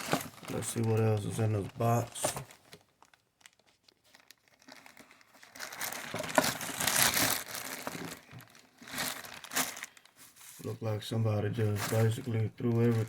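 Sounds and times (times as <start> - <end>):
packing material crinkling: 0.0 - 10.8, 11.6 - 13.0.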